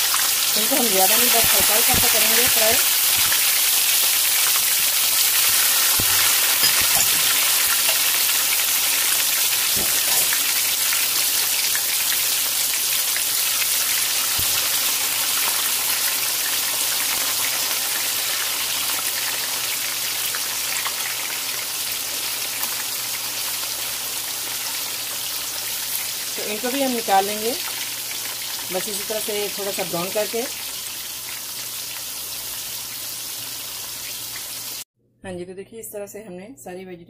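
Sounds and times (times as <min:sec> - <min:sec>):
vegetables sizzling in hot oil: 0:00.0 - 0:34.8.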